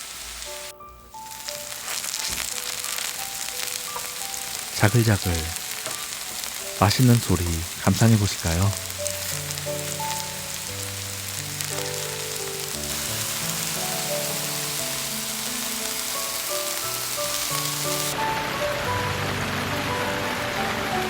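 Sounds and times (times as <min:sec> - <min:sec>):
batter sizzling in oil: 0:00.0 - 0:21.0
rain: 0:00.0 - 0:21.0
gentle melody: 0:00.3 - 0:21.0.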